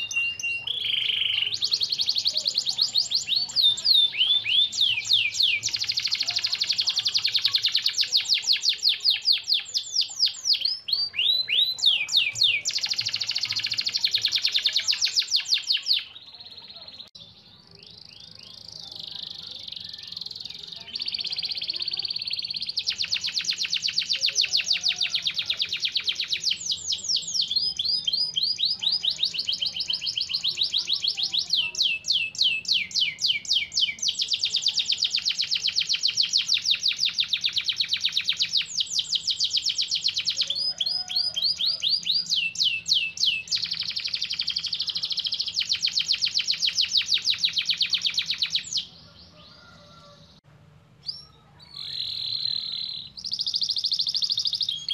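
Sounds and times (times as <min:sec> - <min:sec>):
canary singing rapid trills: 0:00.0 - 0:50.4, 0:51.0 - 0:54.9.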